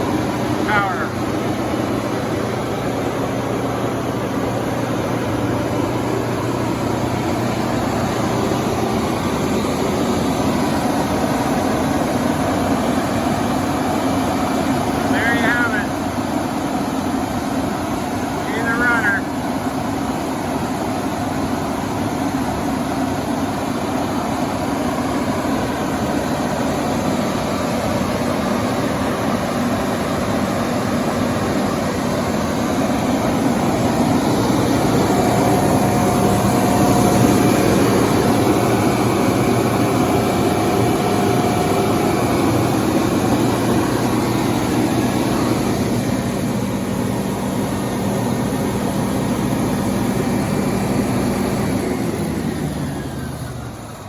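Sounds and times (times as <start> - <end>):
diesel generator running: 0.0 - 54.0
faint steady whine: 0.0 - 54.0.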